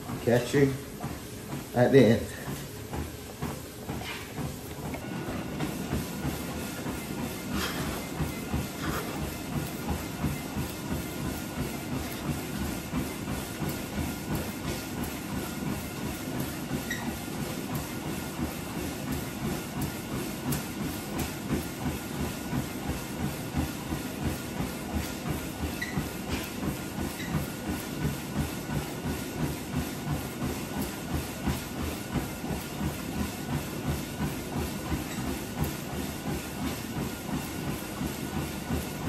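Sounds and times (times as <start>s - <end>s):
footfalls thudding on treadmill belt: 0.0s - 39.0s
treadmill belt and motor whir: 0.0s - 39.0s.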